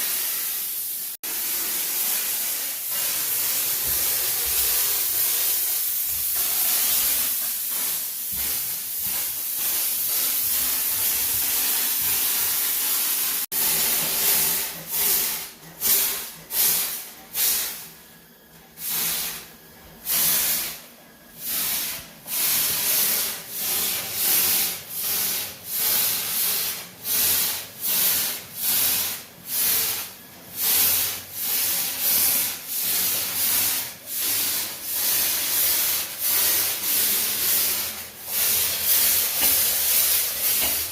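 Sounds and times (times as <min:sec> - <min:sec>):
sprayer hissing: 0:00.0 - 0:17.9, 0:18.8 - 0:40.9.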